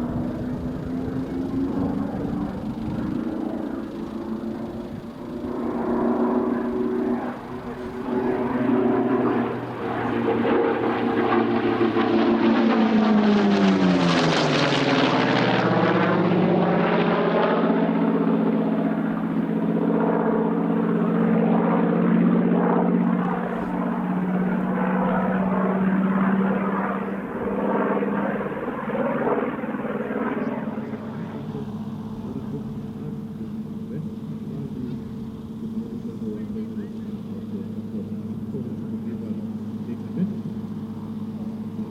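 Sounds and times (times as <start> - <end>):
propeller aircraft flying past: 0.0 - 41.9.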